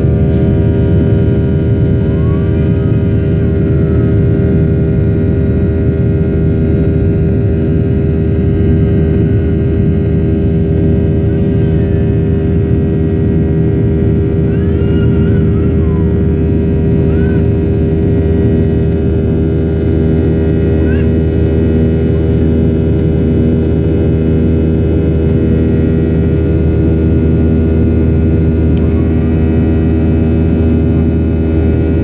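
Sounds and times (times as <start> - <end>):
jet engine cabin drone: 0.0 - 32.0.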